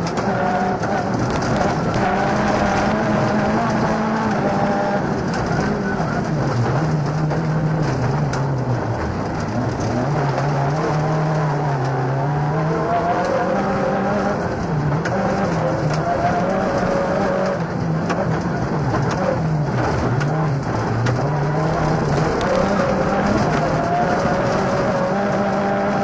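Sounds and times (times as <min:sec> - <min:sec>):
rally car engine from inside cabin: 0:00.0 - 0:26.0.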